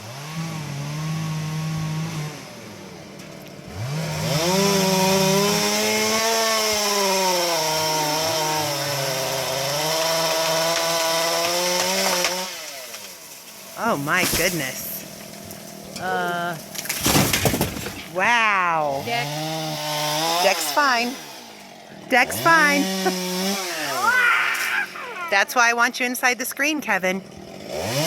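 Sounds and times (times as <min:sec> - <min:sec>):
chainsaw cutting tree trunk: 0:00.0 - 0:25.8, 0:27.2 - 0:28.0.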